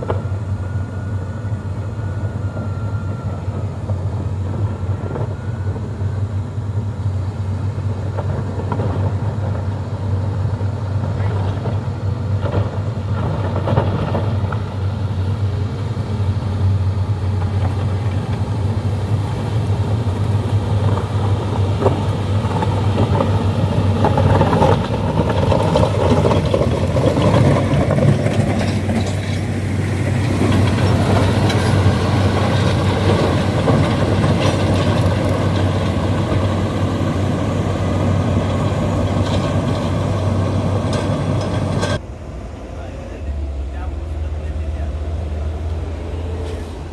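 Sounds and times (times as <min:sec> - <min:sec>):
diesel engine droning: 0:00.0 - 0:46.9
machinery working noise: 0:00.0 - 0:46.9.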